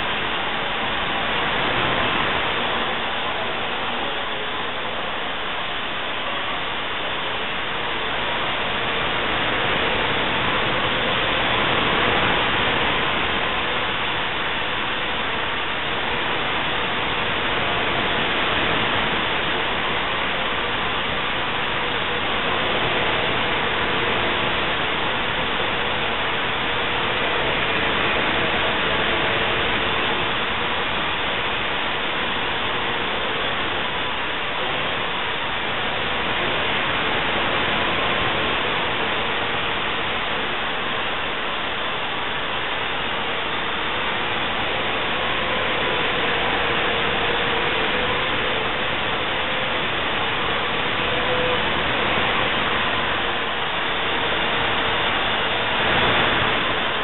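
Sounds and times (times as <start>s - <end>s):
drone rotors rushing hiss: 0.0s - 57.0s
faint steady hum: 0.0s - 57.0s.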